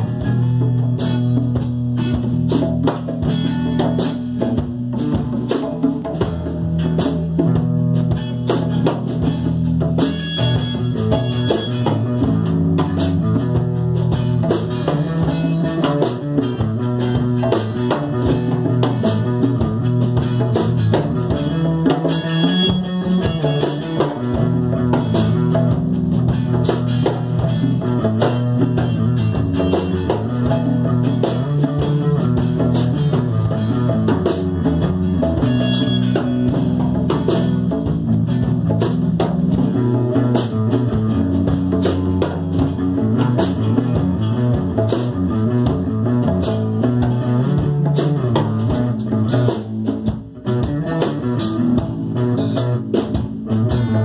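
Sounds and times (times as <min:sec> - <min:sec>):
djembe beat: 0:00.0 - 0:54.0
electric guitar riffs: 0:00.0 - 0:54.0.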